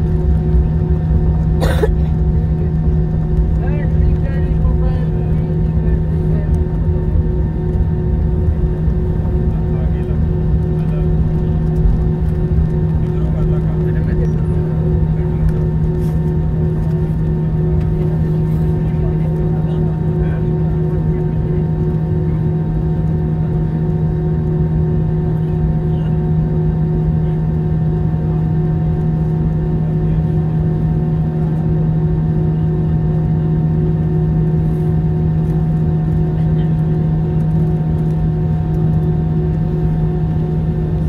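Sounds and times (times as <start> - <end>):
airliner cabin drone: 0.0 - 41.0.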